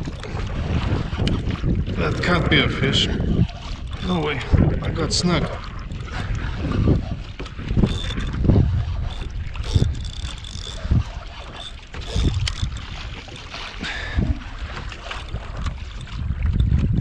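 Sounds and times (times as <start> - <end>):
waves splashing against hull: 0.0 - 17.0
wind buffeting microphone: 0.0 - 17.0.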